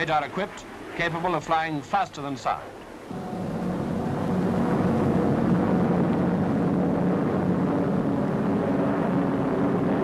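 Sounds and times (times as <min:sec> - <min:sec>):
jet engines in flight: 0:00.0 - 0:10.0.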